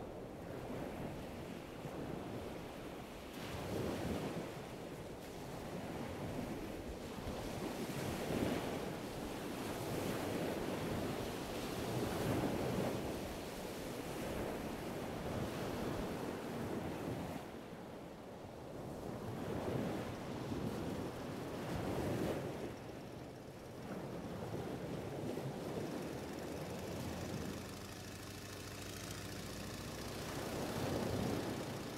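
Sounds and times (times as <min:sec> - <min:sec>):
rushing water and waves: 0:00.0 - 0:31.9
wind: 0:00.0 - 0:31.9.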